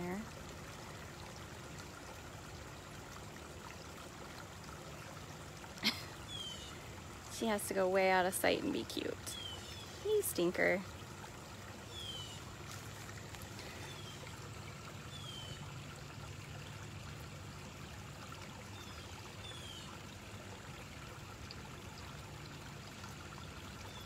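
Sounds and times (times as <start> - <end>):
running water: 0.0 - 24.0.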